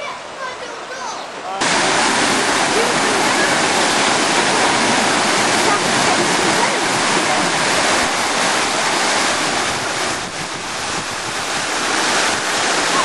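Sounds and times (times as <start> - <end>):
water rushing down slide: 0.0 - 13.0.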